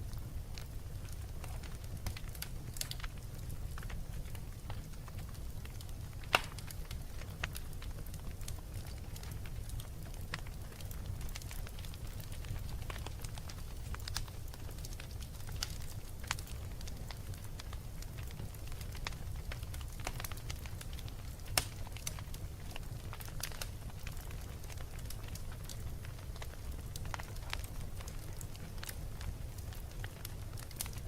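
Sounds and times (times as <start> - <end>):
fire crackling: 0.0 - 31.0
low rumble of fire: 0.0 - 31.0.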